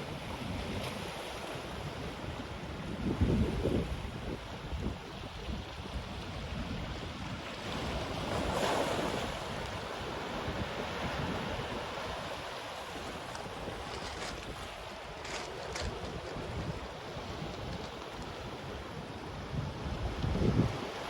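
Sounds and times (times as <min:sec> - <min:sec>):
ocean surf on beach: 0:00.0 - 0:21.0
wind buffeting microphone: 0:01.7 - 0:21.0.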